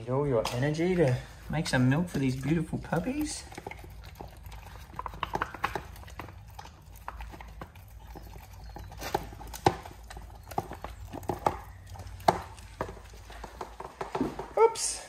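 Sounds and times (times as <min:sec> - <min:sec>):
dog eating from foil tray: 0:00.2 - 0:15.0.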